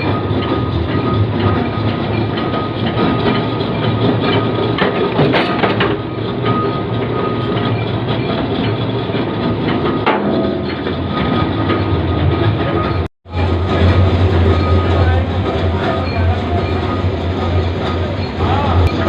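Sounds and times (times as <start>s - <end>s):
forging machinery clattering: 0.0s - 19.0s
machinery hum: 0.0s - 19.0s.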